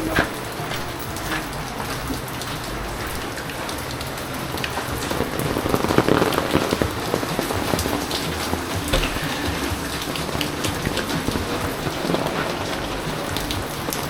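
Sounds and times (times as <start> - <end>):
rain falling on surfaces: 0.0 - 14.0.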